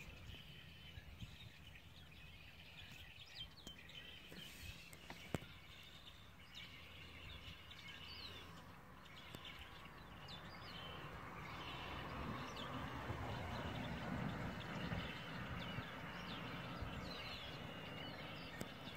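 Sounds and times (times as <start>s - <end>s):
bird chirps: 0.0s - 18.9s.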